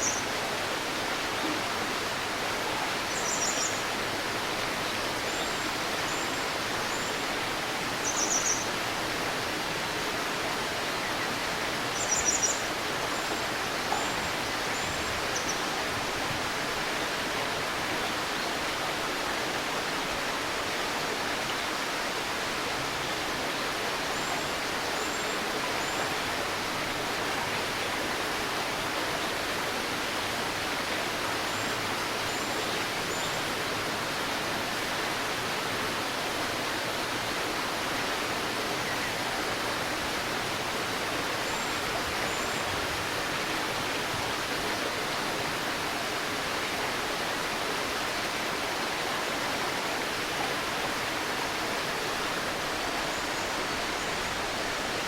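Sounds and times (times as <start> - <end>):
river babbling: 0.0 - 55.0.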